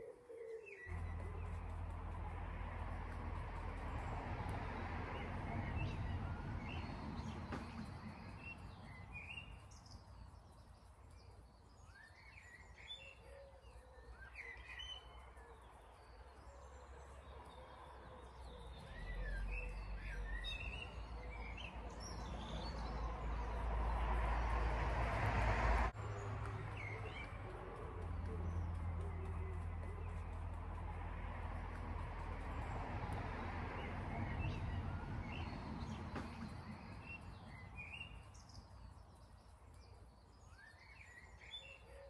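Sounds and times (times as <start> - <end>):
small birds chirping: 0.0 - 42.0
low outdoor rumble: 0.9 - 11.8, 15.1 - 40.5.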